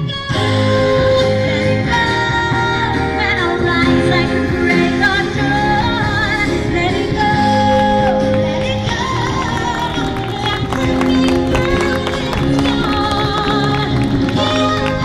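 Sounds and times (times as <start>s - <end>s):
instrumental backing: 0.0s - 15.0s
person singing with vibrato: 0.0s - 15.0s.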